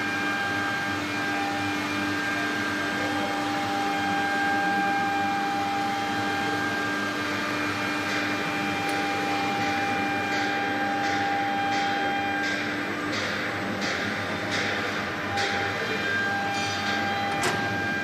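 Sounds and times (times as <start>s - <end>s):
machine hum with whining tones: 0.0s - 18.0s.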